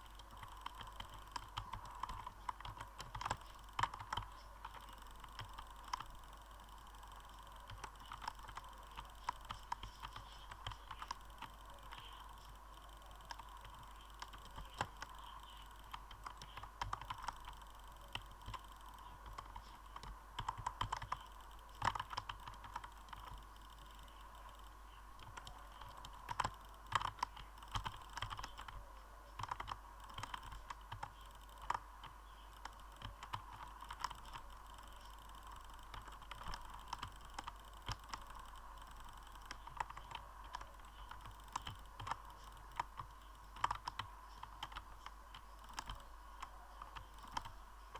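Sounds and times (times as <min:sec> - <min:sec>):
clicking: 0:00.0 - 0:47.6.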